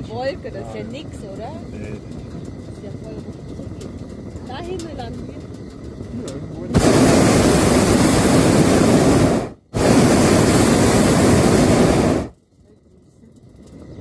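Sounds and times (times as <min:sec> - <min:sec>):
propane burner blasts: 0:00.0 - 0:14.0.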